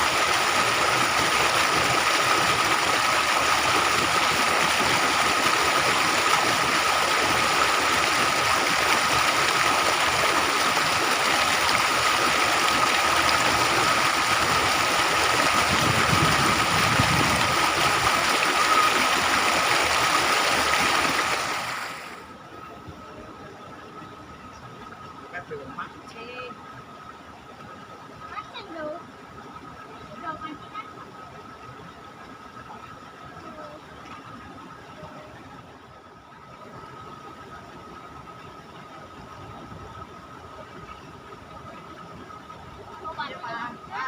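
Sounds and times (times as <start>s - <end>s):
water rushing in a channel: 0.0s - 44.0s.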